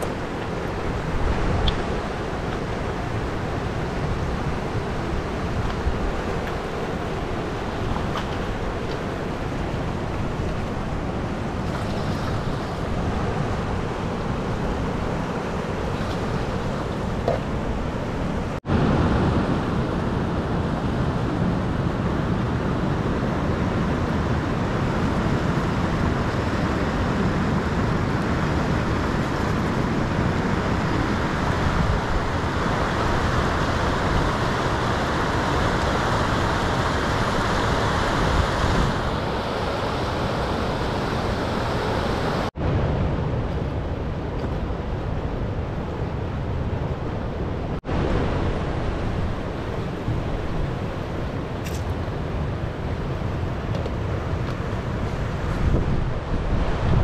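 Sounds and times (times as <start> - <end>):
river rushing over rocks: 0.0 - 44.2, 46.9 - 57.0.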